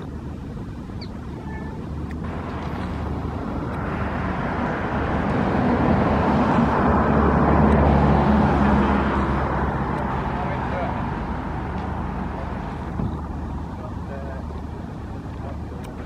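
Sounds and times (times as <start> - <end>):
engine passing by: 1.2 - 16.0.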